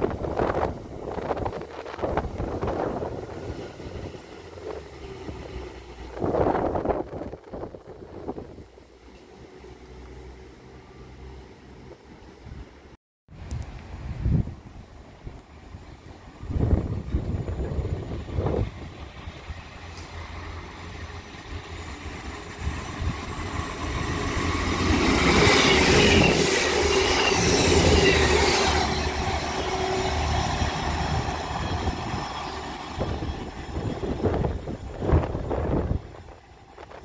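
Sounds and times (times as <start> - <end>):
train engine drone: 0.0 - 37.0.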